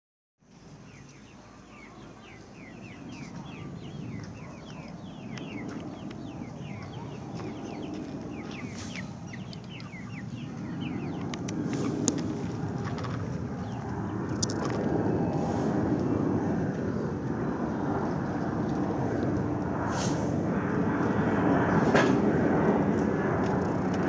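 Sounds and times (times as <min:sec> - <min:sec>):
birds chirping: 0:00.5 - 0:22.8
distant jet engines rumble: 0:00.5 - 0:24.0.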